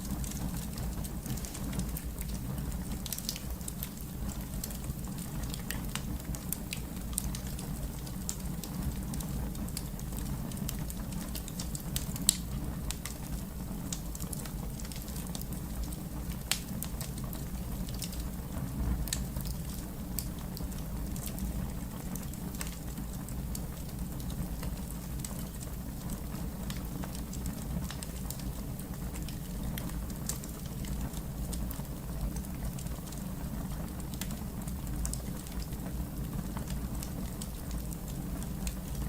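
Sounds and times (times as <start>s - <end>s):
fire crackling and popping: 0.0s - 39.0s
low fire rumble: 0.0s - 39.0s.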